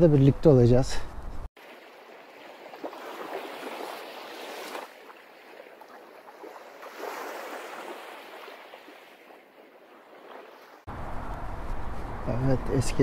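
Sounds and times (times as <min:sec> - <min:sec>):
small waves lapping: 0:01.6 - 0:12.2.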